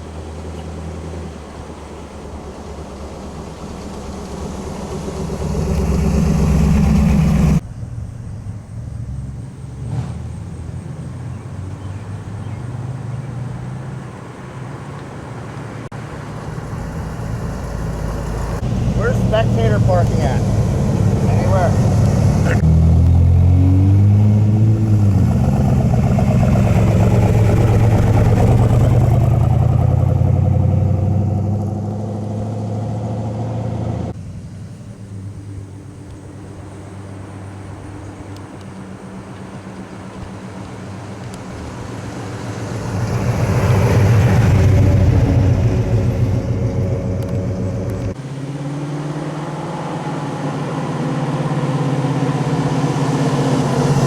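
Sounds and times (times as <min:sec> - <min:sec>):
muscle car engines running: 0:00.0 - 0:54.0.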